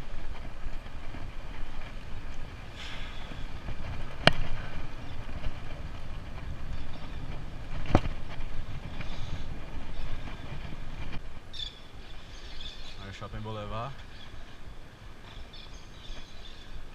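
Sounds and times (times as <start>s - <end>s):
bicycle tyre rumble on asphalt: 0.0s - 16.9s
wind on microphone: 0.0s - 16.9s.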